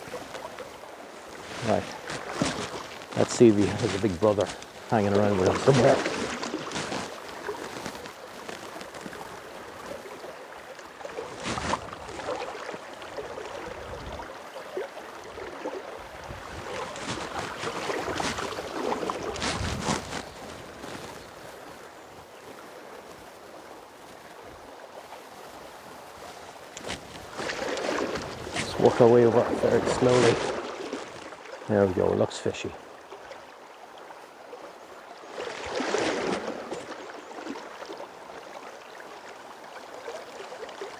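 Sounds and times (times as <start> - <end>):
river water flowing and splashing: 0.0 - 40.9.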